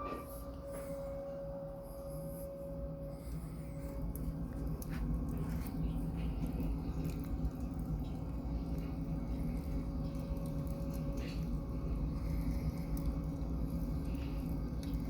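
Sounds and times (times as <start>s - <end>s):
wood fire rumbling: 2.9s - 15.0s.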